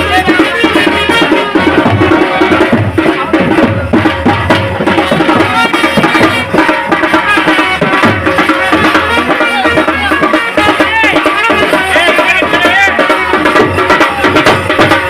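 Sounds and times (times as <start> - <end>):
drums beating steady rhythm: 0.0 - 15.0
pitched melody line: 0.0 - 15.0.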